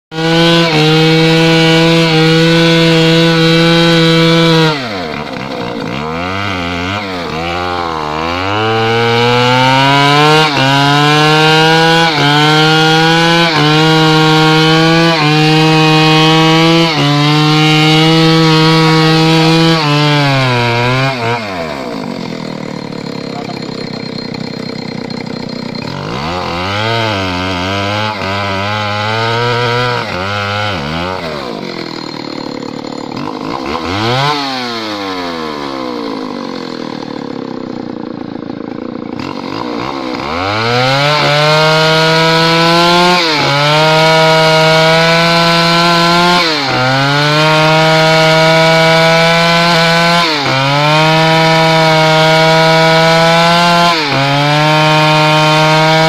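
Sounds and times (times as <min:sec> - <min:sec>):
chainsaw cutting tree trunk: 0:00.1 - 0:56.0.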